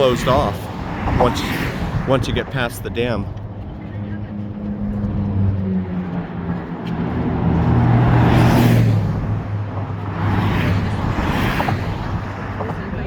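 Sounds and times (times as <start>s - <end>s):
vehicle approaching: 0.0s - 13.0s
vehicle passing by: 0.0s - 13.0s.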